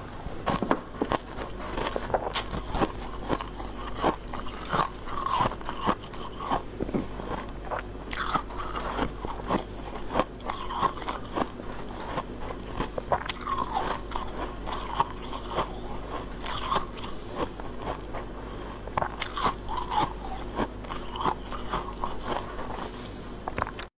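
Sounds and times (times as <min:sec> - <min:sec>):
ice being chewed: 0:00.4 - 0:23.9.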